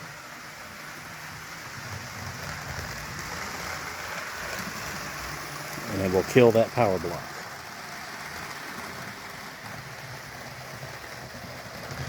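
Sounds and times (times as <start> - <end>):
low motor hum: 0.0 - 12.0
model train wheels rolling on rails: 0.0 - 12.0.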